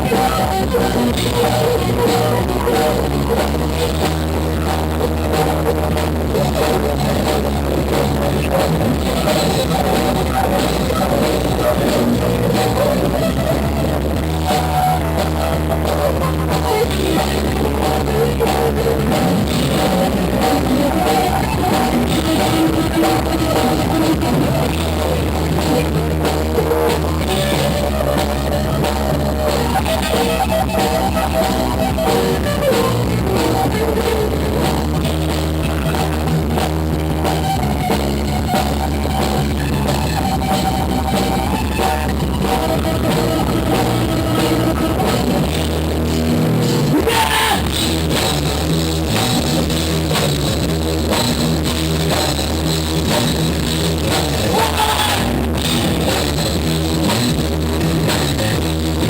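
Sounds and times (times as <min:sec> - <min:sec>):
rock band music: 0:00.0 - 0:59.0.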